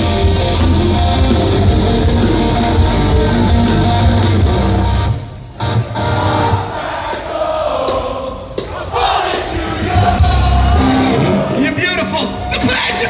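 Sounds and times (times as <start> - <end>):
crowd voices: 0.0 - 13.0
heavy rock band playing live: 0.0 - 13.0.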